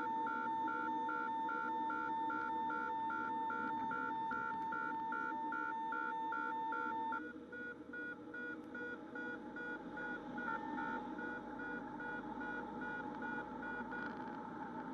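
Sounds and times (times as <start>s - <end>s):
beeping warning tone: 0.3s - 14.1s.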